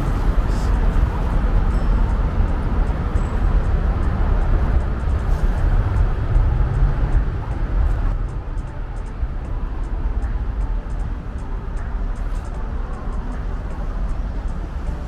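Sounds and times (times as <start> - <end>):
rumble of passing cars: 0.0 - 15.0.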